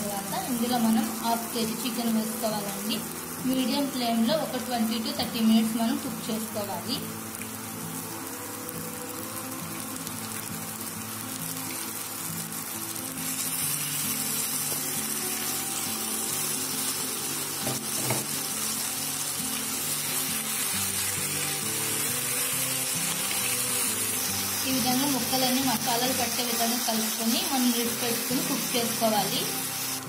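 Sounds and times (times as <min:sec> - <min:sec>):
oil sizzling in a frying pan: 0:00.0 - 0:30.0.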